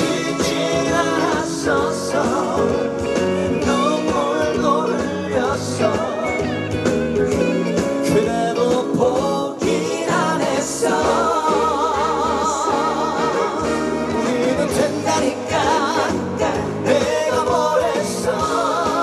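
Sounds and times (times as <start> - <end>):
person singing: 0.0 - 6.6, 7.2 - 19.0
instrumental accompaniment: 0.0 - 19.0.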